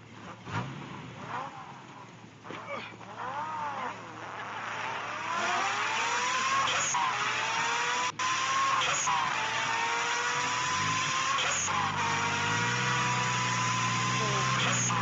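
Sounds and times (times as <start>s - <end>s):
engine revving in surges: 0.0s - 15.0s.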